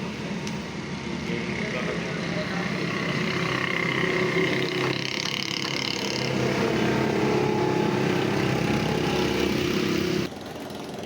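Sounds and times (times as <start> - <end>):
motor humming drone: 1.2 - 10.3.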